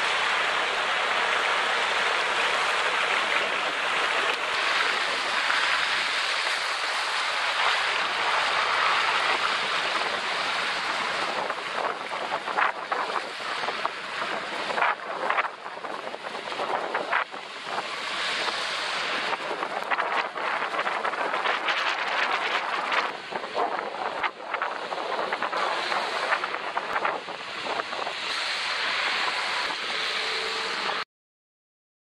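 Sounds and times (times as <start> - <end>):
wind buffeting microphone: 0.0 - 30.9
tyres swishing through water: 0.0 - 31.0.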